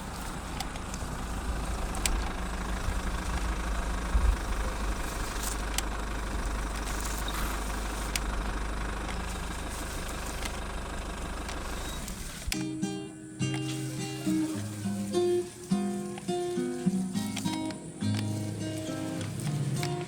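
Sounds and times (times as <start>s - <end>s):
diesel truck engine idling: 0.0s - 20.0s
faint clicks: 0.0s - 20.0s.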